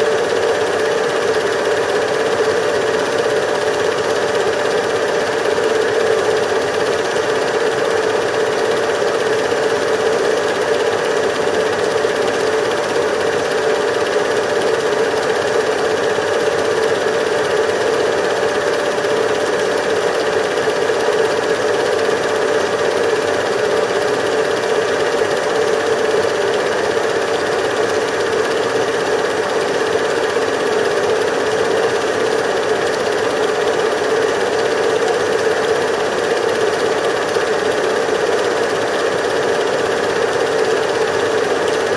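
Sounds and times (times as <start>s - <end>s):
film projector whirring: 0.0s - 41.9s.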